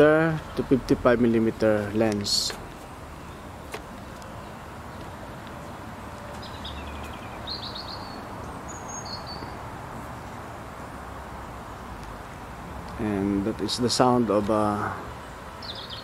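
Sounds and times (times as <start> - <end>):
birds chirping: 0.0 - 16.0
steady low hum and hiss: 0.0 - 16.0.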